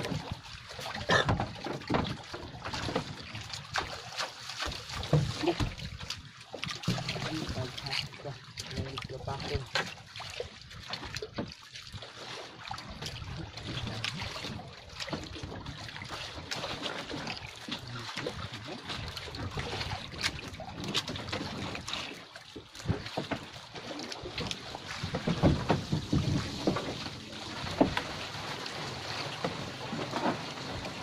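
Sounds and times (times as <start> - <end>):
water lapping against boat: 0.0 - 31.0.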